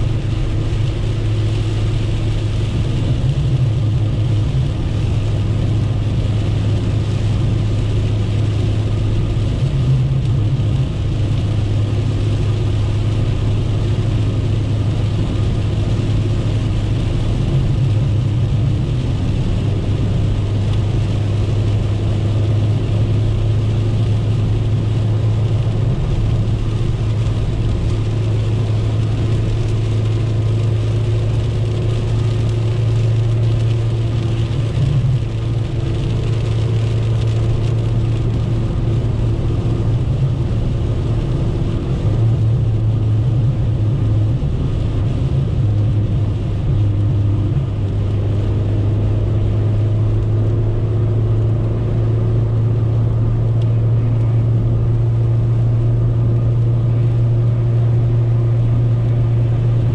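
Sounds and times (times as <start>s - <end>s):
car engine low drone: 0.0s - 59.9s
rain and wet tyres hissing: 0.0s - 59.9s.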